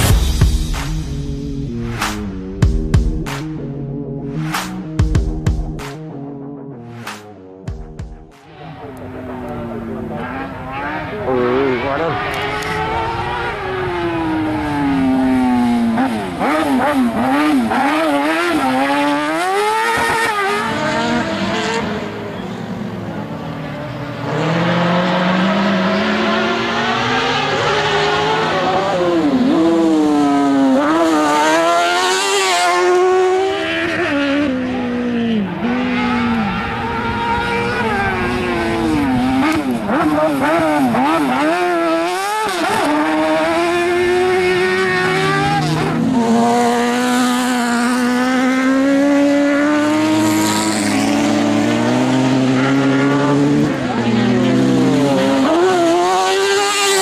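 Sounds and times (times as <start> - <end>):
buggy engines revving: 8.4 - 57.0.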